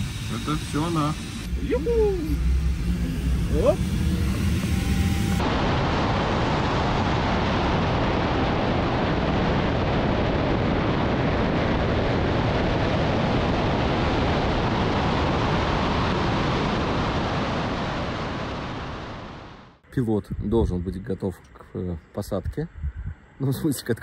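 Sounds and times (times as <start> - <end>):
airflow over microphone: 0.0 - 20.8.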